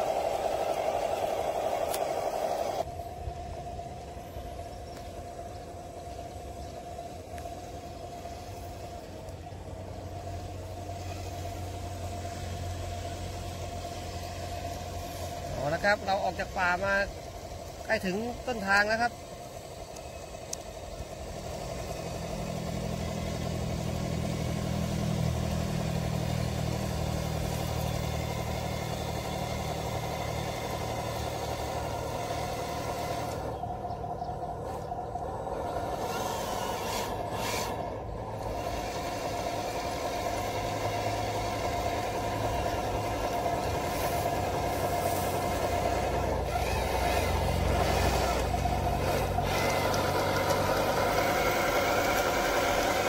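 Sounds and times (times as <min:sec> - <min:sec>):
model crawler engine running: 0:00.0 - 0:53.0.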